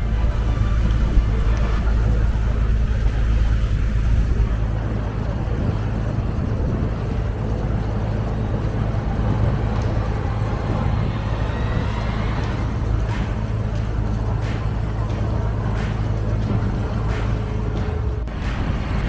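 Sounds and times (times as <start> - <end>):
boat engine drone: 0.0 - 19.0
rushing water noise: 0.0 - 19.0.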